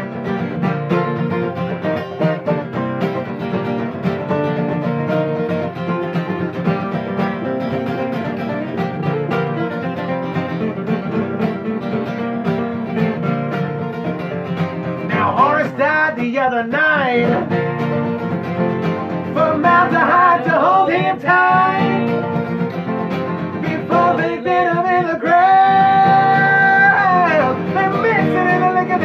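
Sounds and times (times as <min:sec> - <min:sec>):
acoustic bluegrass string band: 0:00.0 - 0:29.0.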